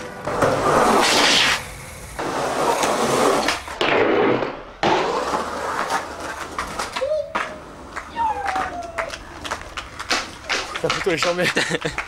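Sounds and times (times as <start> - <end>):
skateboard wheels rolling on concrete: 0.0 - 12.0
skateboard clacking on ground: 2.2 - 12.0.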